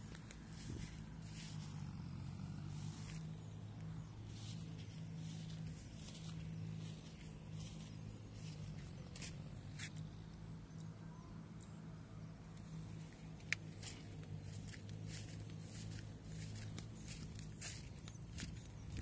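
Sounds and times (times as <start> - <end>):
footsteps on dirt path: 0.0 - 10.2, 12.6 - 19.0.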